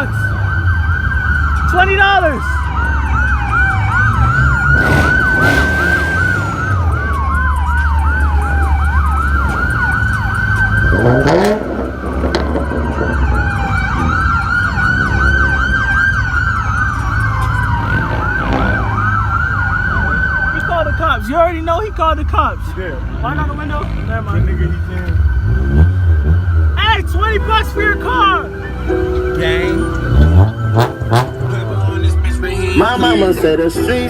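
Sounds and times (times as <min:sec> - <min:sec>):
police siren yelping: 0:00.0 - 0:22.6, 0:24.3 - 0:34.0
police siren wailing: 0:00.0 - 0:34.0
car engine rumble: 0:02.4 - 0:34.0.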